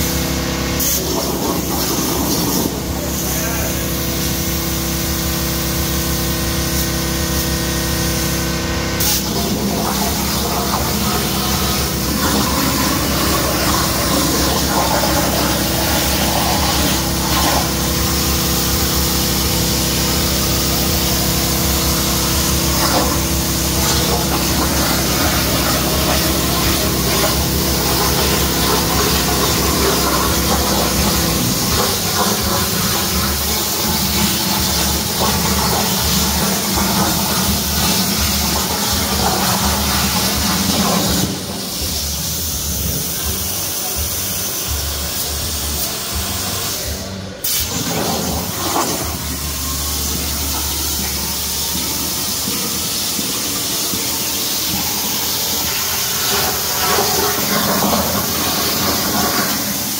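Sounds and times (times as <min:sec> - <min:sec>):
hiss: 0:00.8 - 0:59.9.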